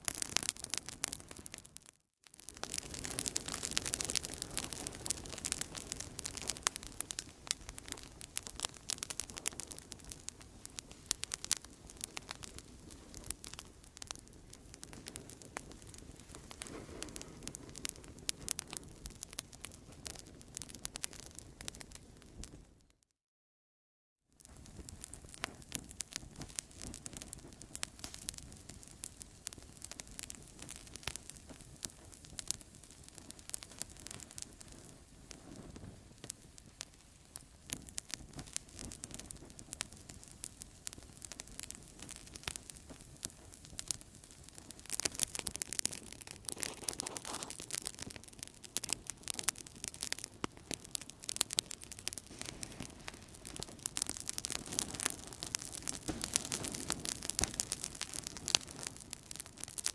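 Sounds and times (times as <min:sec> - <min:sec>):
campfire crackling: 0:00.0 - 0:22.7, 0:24.4 - 0:59.9.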